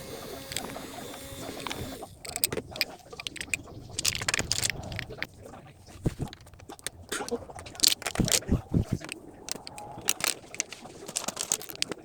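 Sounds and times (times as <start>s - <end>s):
sharp clicks and knocks: 0.0s - 5.3s, 6.0s - 12.0s.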